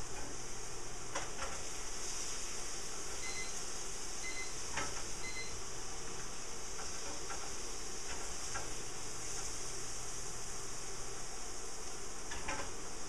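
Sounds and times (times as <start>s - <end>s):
induction cooktop hiss and hum: 0.0s - 13.0s.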